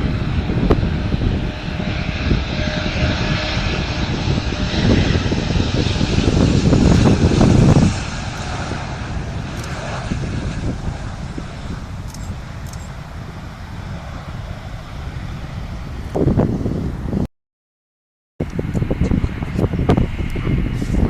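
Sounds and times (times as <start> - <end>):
jet engines rumbling: 0.0 - 17.3, 18.4 - 21.0.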